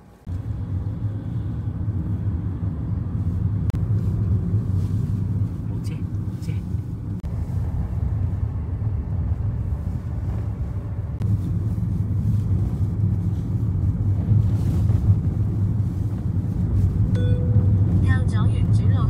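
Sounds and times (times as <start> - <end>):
car engine rumble from cabin: 0.0 - 19.0
tyre road noise: 0.0 - 19.0.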